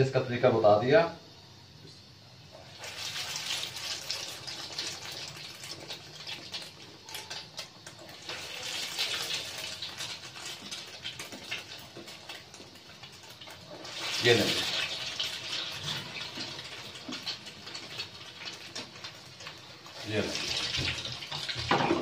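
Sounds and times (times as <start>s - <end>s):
oil sizzling and crackling: 1.2s - 22.0s.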